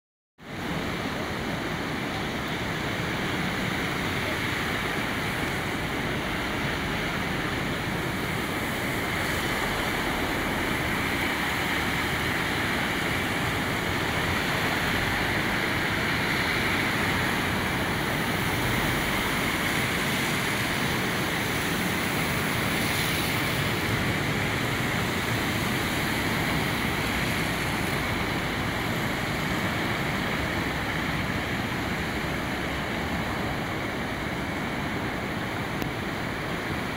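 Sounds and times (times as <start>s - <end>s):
floodwater rushing: 0.4s - 36.9s.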